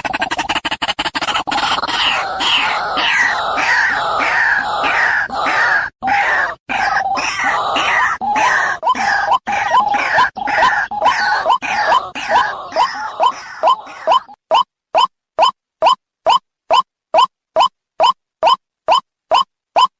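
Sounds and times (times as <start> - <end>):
waterhen calling harshly: 1.2 - 19.9.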